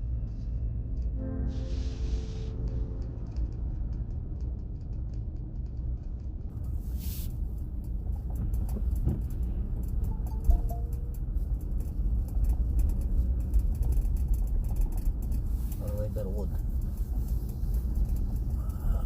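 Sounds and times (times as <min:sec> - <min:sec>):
car driving rumble: 0:02.8 - 0:19.0.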